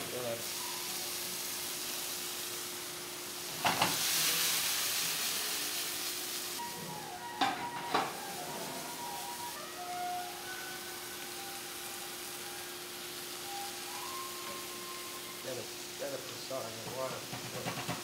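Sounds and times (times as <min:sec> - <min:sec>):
mushrooms sizzling in a frying pan: 0:00.0 - 0:18.0.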